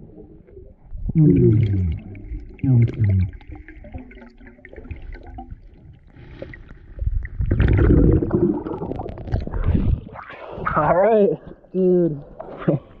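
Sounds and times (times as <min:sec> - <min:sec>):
churning water and bubbles: 0:00.0 - 0:10.8.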